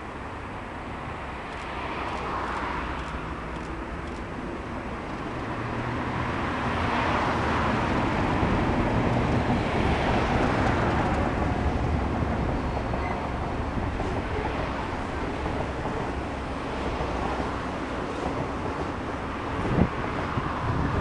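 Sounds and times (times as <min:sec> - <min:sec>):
diesel locomotives passing: 0:00.0 - 0:21.0.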